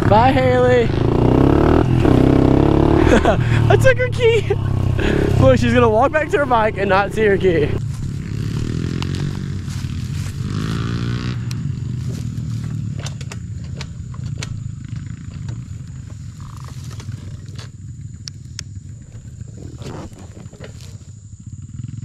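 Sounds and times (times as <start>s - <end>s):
small motorbike engines idling: 0.0s - 22.0s.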